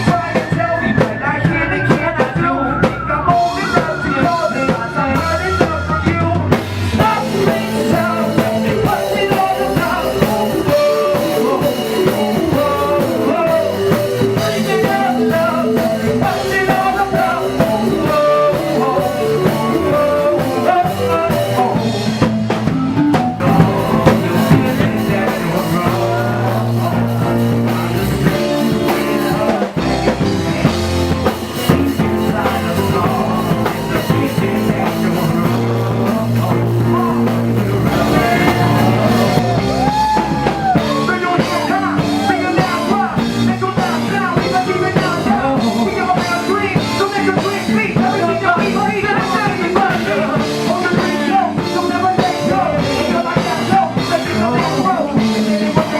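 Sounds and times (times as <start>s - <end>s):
bending lead guitar line: 0.0s - 54.6s
instrumental rock music: 0.0s - 55.9s.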